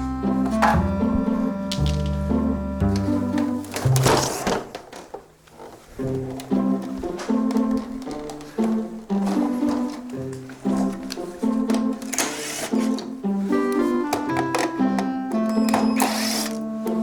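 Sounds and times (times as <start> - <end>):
plucked-string background music: 0.0 - 4.8, 5.9 - 17.0.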